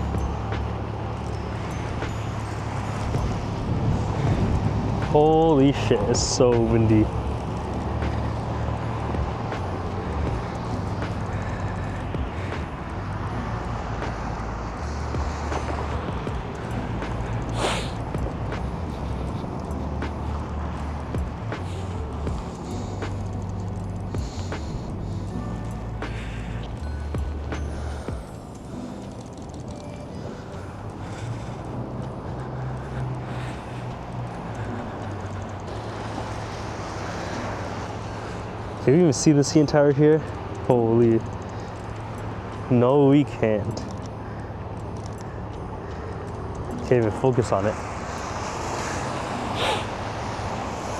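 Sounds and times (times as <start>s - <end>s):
low traffic rumble: 0.0s - 50.9s
street hiss: 0.0s - 50.9s
wind buffeting microphone: 0.0s - 50.9s.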